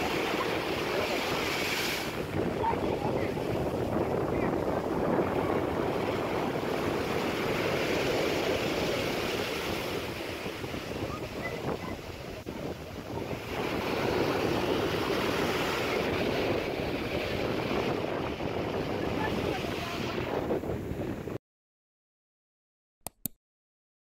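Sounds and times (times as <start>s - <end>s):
waves breaking and churning: 0.0s - 21.4s.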